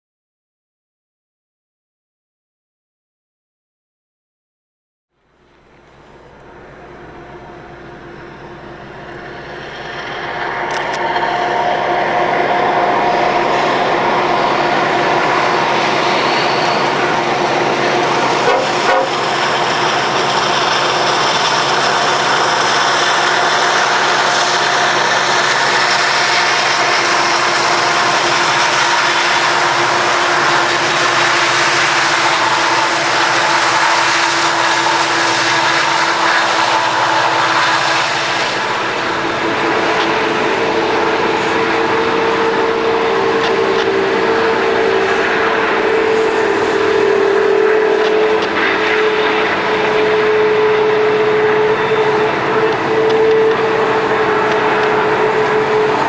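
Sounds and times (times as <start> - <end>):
diesel train passing: 5.2 - 56.0.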